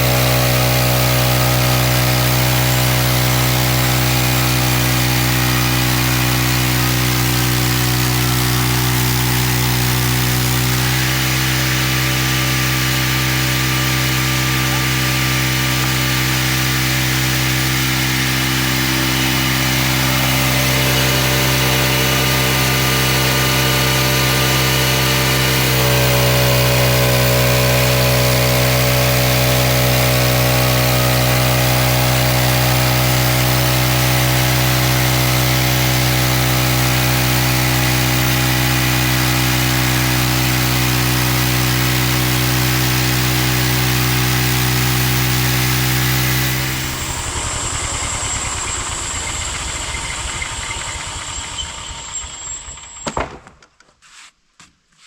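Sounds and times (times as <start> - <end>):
sawmill engine running: 0.0 - 53.6.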